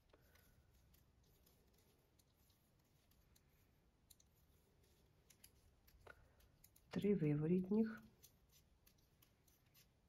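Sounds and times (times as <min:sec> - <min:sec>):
metal knitting needles clicking: 0:00.0 - 0:10.0.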